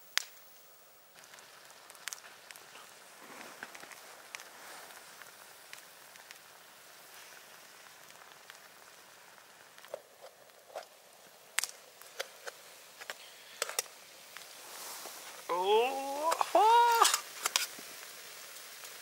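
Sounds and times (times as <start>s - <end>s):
egg sizzling: 0.0s - 19.0s.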